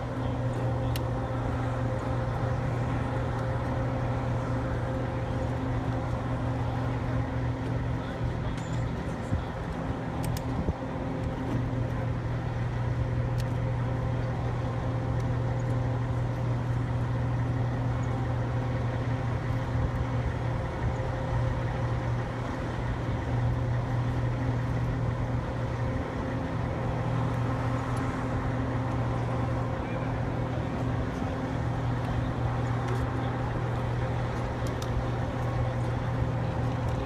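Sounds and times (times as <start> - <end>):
machinery drone: 0.0 - 37.0.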